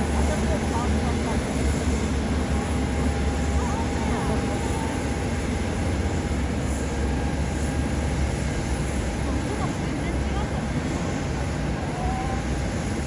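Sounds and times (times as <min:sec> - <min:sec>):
jet airliner engine rumble: 0:00.0 - 0:13.0.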